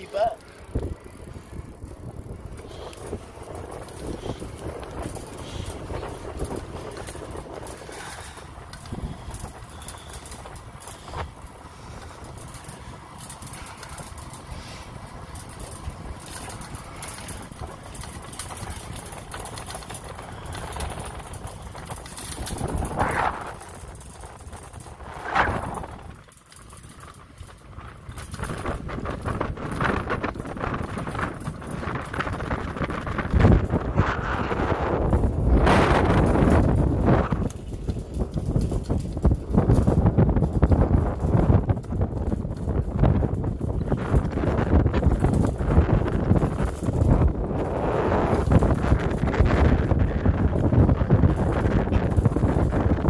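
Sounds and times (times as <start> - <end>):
bicycle tyres rolling on pavement: 0.0 - 53.0
wind rushing over microphone: 0.0 - 53.0.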